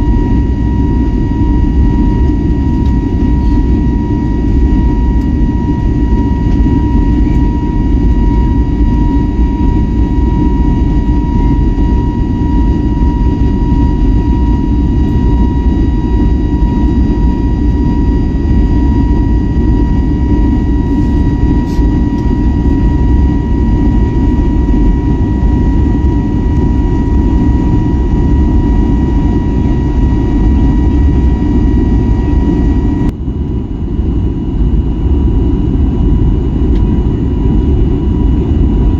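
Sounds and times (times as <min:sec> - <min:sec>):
airplane cabin engine rumble: 0:00.0 - 0:38.9
high whine: 0:00.0 - 0:38.9.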